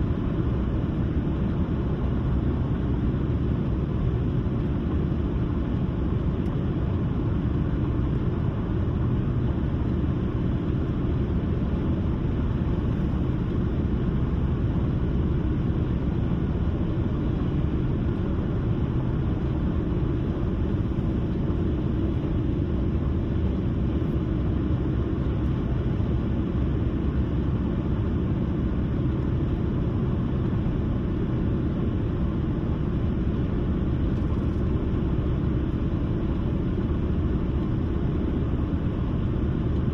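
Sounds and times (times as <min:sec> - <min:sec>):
car road noise from inside: 0:00.0 - 0:39.9.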